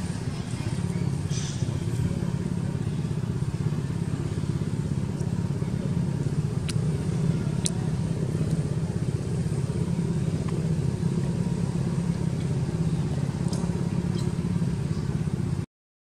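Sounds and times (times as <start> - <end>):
small engine droning: 0.0 - 15.7.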